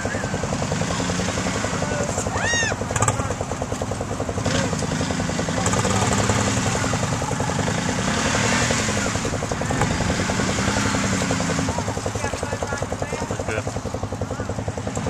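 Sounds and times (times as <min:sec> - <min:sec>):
vehicle engine running hard: 0:00.0 - 0:15.0.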